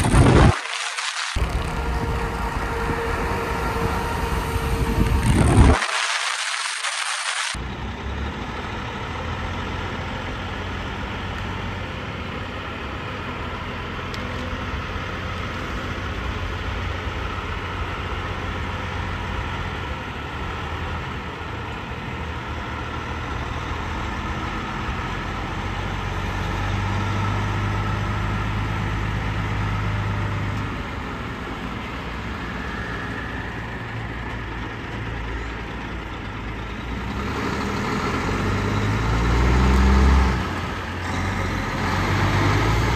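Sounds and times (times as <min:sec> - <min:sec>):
truck engine droning: 0:00.0 - 0:42.9.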